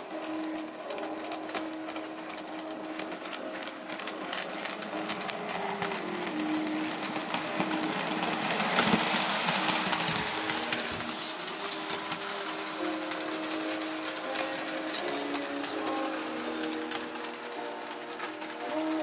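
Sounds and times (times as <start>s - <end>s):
model train wheels clicking: 0.0s - 19.0s.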